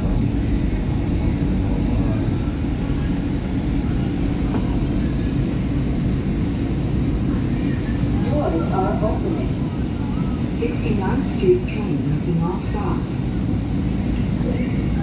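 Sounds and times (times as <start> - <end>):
subway train rumbling on track: 0.0 - 15.0.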